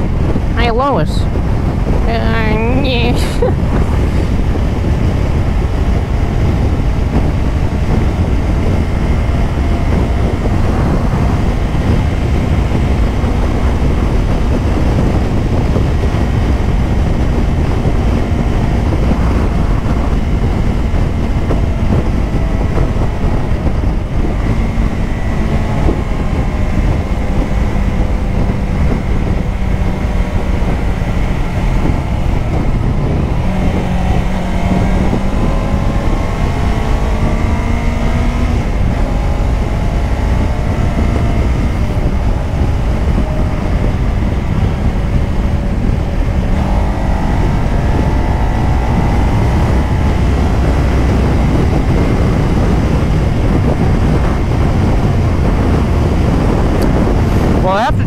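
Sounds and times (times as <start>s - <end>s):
motorcycle engine running: 0.0s - 58.0s
wind rushing on microphone: 0.0s - 58.0s.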